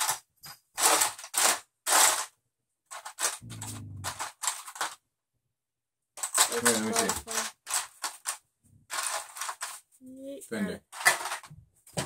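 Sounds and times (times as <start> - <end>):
game pieces rustling and clattering: 0.0 - 5.1, 6.2 - 10.0, 10.8 - 12.0.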